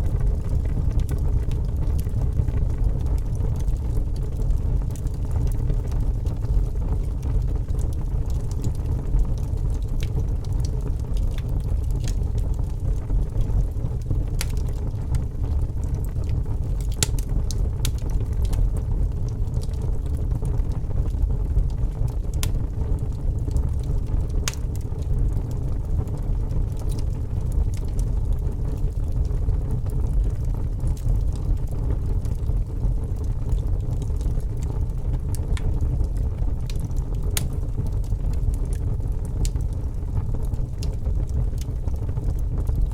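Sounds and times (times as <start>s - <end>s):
campfire low rumble: 0.0s - 42.9s
wood crackling and popping: 0.0s - 42.9s.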